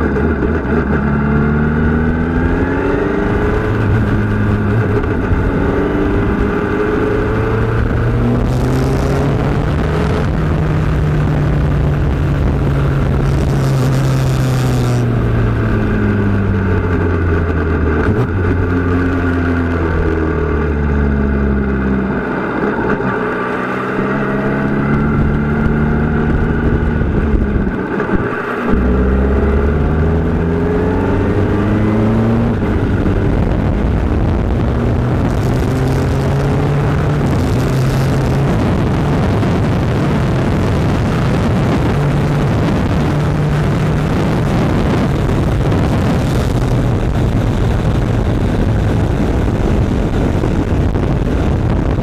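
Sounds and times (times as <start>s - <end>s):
racing car engine: 0.0s - 52.0s.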